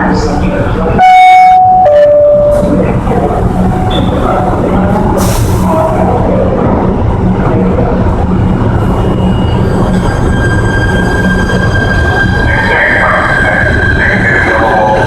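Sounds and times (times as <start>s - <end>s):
subway train rail rumble: 0.0s - 15.0s.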